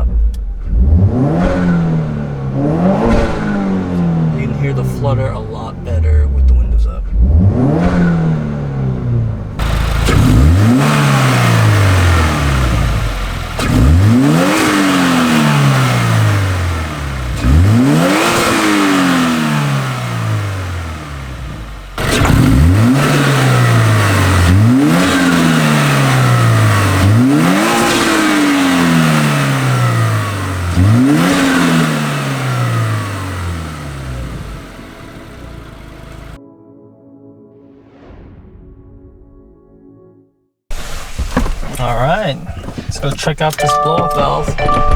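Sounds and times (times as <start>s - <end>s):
car engine revving: 0.0s - 36.4s.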